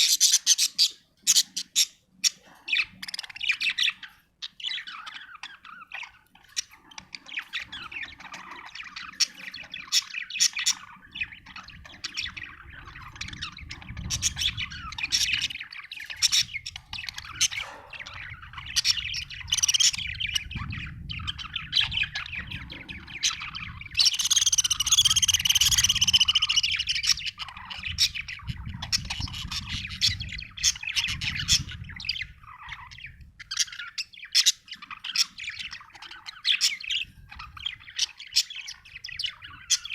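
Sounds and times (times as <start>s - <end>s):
budgerigar chirping and chattering: 0.0s - 39.9s.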